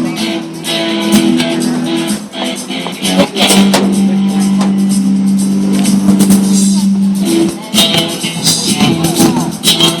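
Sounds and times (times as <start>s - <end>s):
music with guitar and drums: 0.0s - 10.0s.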